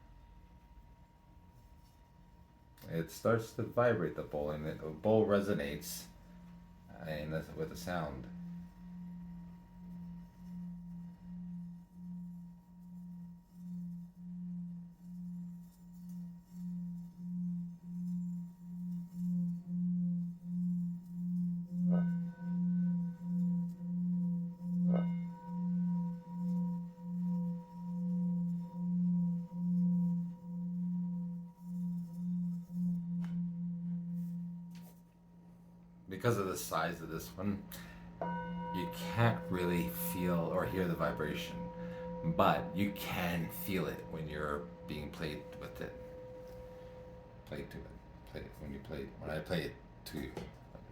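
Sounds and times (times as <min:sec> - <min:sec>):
singing bowl humming: 0:00.0 - 0:50.9.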